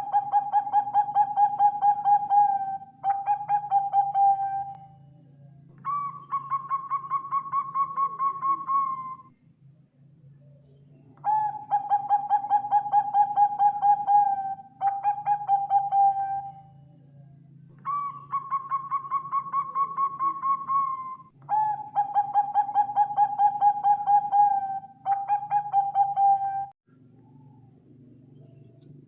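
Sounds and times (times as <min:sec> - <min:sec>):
dove cooing: 0:00.0 - 0:05.0, 0:05.8 - 0:09.3, 0:11.2 - 0:16.8, 0:17.8 - 0:27.6
faint low hum: 0:00.0 - 0:29.0.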